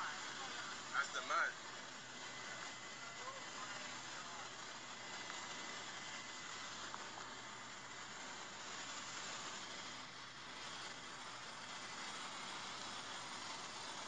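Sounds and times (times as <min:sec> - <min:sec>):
aircraft cabin engine hiss: 0:00.0 - 0:14.0.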